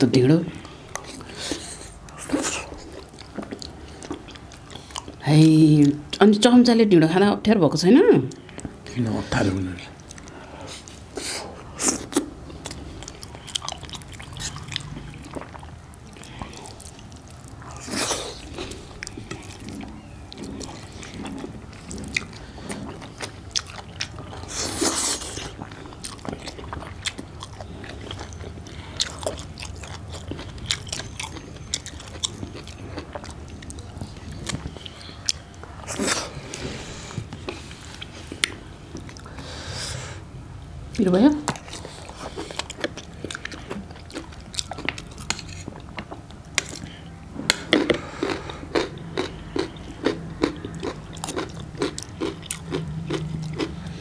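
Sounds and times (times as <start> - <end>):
people chewing food: 0.0 - 6.6, 8.1 - 54.0.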